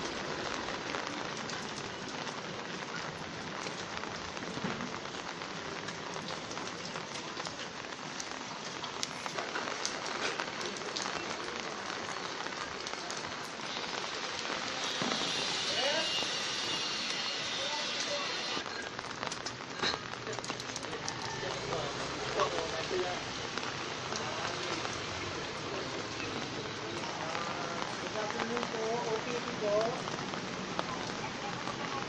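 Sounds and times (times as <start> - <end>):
rain falling on a street: 0.0 - 32.0.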